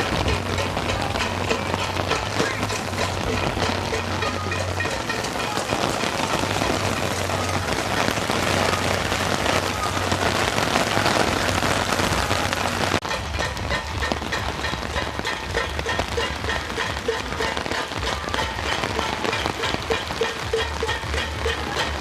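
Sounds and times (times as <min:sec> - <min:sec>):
heavy rain pelting down: 0:00.0 - 0:22.0.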